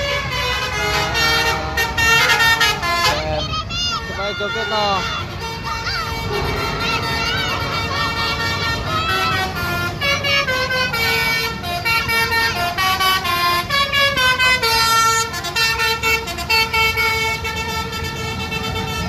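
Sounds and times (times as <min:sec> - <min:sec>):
bus engine rumble: 0:00.0 - 0:19.0
bus horn playing a melody: 0:00.0 - 0:19.0.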